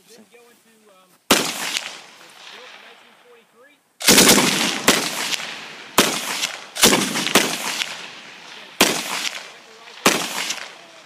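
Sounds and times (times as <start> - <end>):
rifle shots ringing out: 1.3 - 3.4, 4.0 - 11.0.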